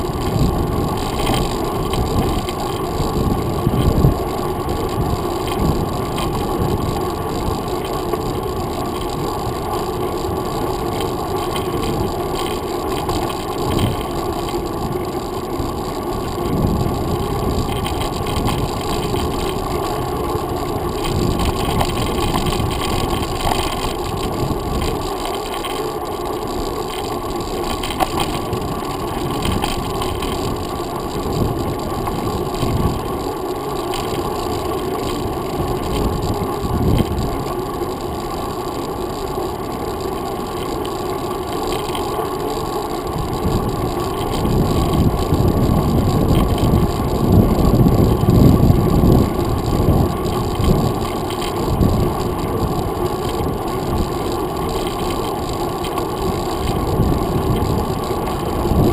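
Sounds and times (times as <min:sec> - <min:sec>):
bicycle road rumble: 0:00.0 - 0:58.9
wind: 0:00.0 - 0:58.9.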